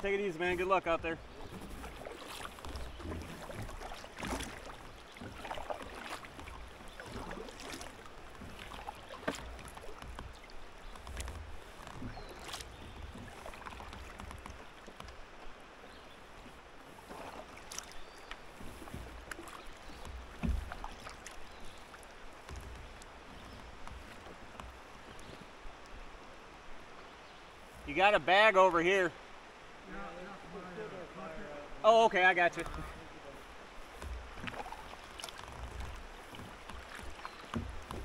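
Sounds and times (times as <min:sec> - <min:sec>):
water drips and light splashes: 0:00.0 - 0:27.9, 0:32.0 - 0:38.0
kayak paddle dipping into water: 0:00.0 - 0:30.2, 0:31.8 - 0:38.0.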